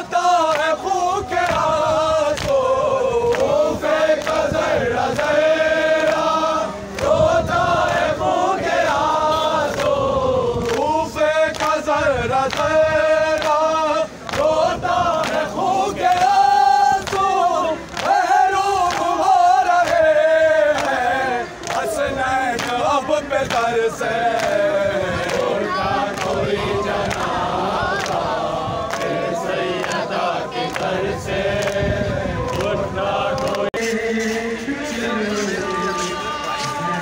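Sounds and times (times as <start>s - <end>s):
men chanting in chorus: 0.0s - 37.0s.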